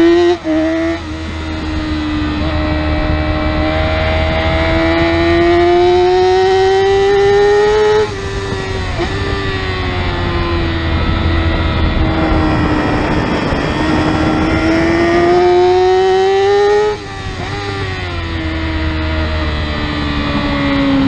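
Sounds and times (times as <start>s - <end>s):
motorcycle engine revving: 0.0s - 21.0s
wind rush: 0.0s - 21.0s.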